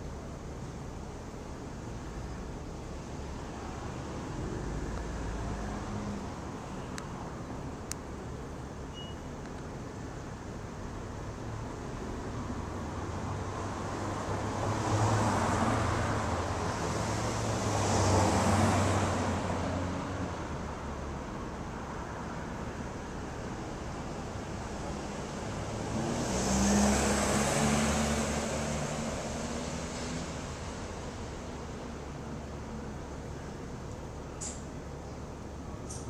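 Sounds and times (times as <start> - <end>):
background traffic noise: 0.0 - 36.0
cars passing: 1.6 - 8.8, 9.8 - 36.0.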